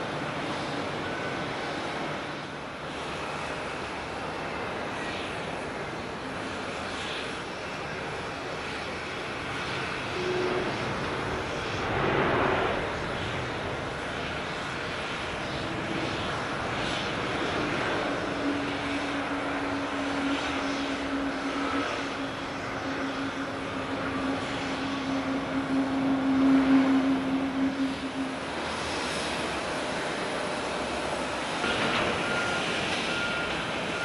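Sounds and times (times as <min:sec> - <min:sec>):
jet engines humming: 0:00.0 - 0:34.0.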